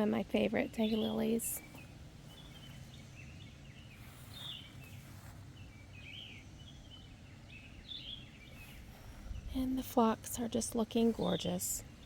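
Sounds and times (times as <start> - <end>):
low background rumble: 0.0 - 12.0
birds singing and chirping: 0.6 - 12.0.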